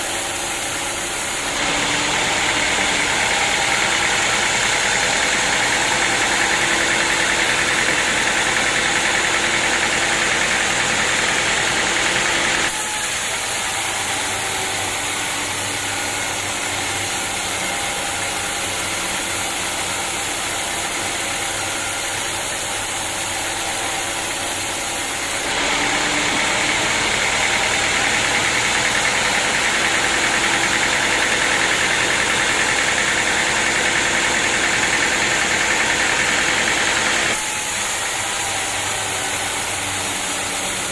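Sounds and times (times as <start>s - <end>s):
sawmill saw and engine running: 0.0s - 40.9s.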